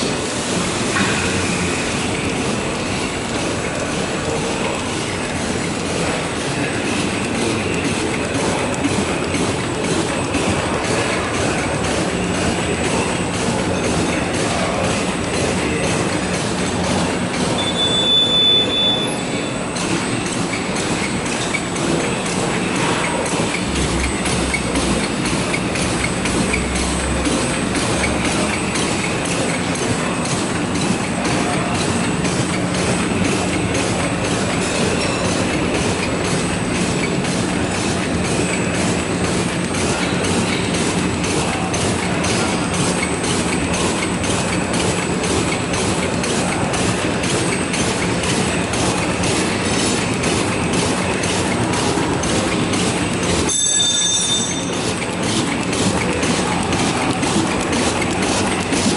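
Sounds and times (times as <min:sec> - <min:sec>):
bag-making machine clattering: 0:00.0 - 0:58.9.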